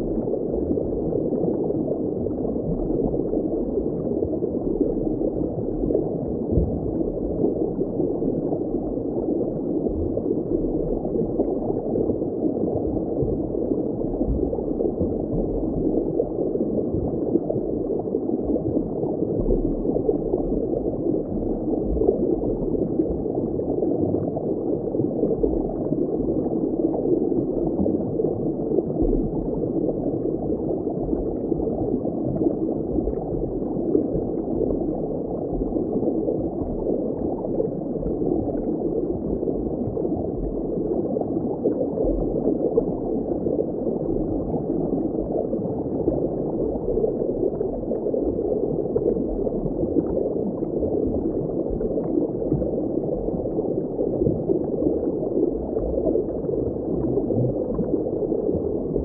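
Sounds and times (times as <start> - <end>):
underwater bubbling and gurgling: 0.0 - 59.0.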